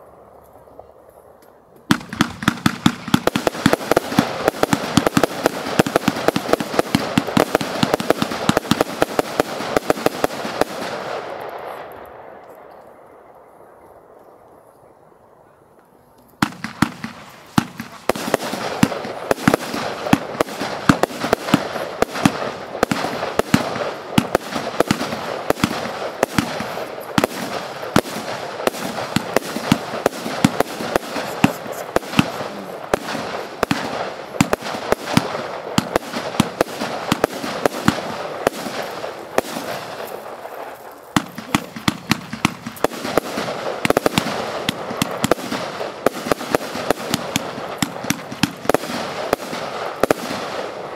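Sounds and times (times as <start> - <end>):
firework battery shots: 1.8 - 11.9, 16.4 - 50.9
firework crackling: 1.8 - 12.6, 16.3 - 50.9.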